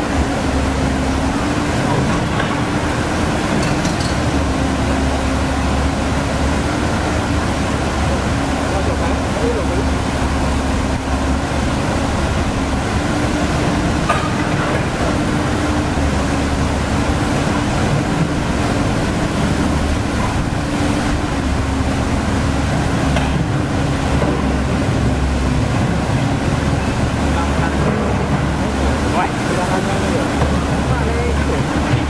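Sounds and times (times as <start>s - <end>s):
excavator diesel engine running: 0.0s - 32.0s
water rushing over weir: 0.0s - 32.0s.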